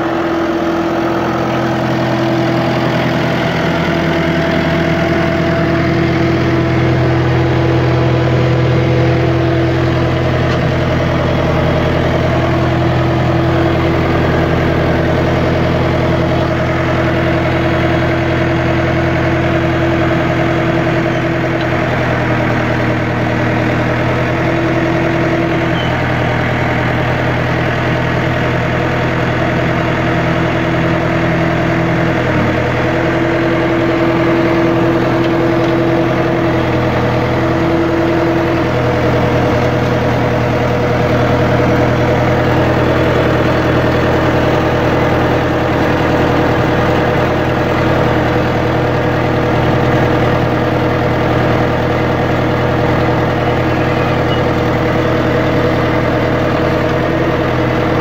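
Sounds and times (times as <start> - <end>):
loader engine idling: 0.0 - 58.0.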